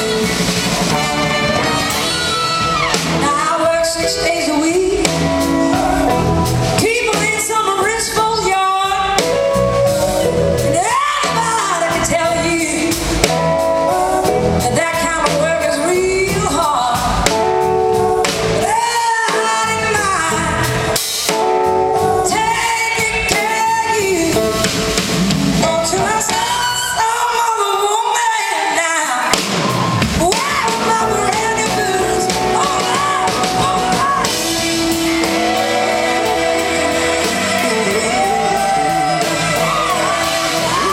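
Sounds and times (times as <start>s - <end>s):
blues-rock band playing: 0.0s - 40.9s
woman singing: 2.0s - 6.1s, 6.8s - 24.7s, 25.6s - 29.4s, 30.2s - 40.9s.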